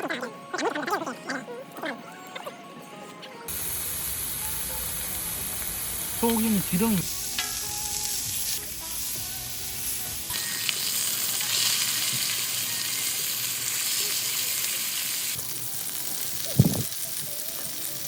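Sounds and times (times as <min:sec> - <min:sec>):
meat frying in fat: 0:03.5 - 0:18.0.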